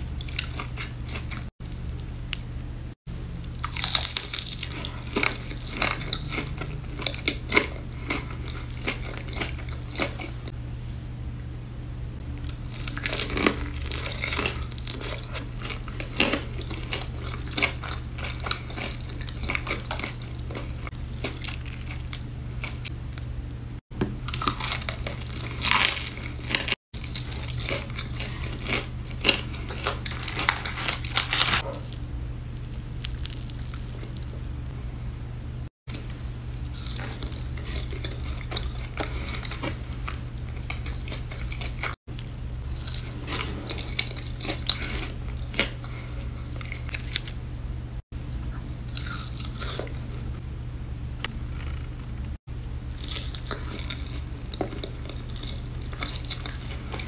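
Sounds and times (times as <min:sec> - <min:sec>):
crunching fried chicken: 0:00.0 - 0:02.0, 0:03.3 - 0:10.5, 0:12.3 - 0:23.3, 0:24.2 - 0:34.8, 0:35.9 - 0:47.4, 0:48.7 - 0:50.3, 0:52.7 - 0:57.0
steady low hum: 0:00.0 - 0:57.0.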